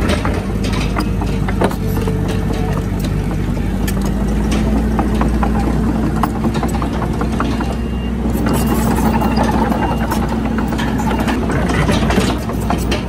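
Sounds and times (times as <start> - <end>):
bulldozer diesel engine running: 0.0 - 13.0
sharp clicks and rattles: 0.0 - 13.0.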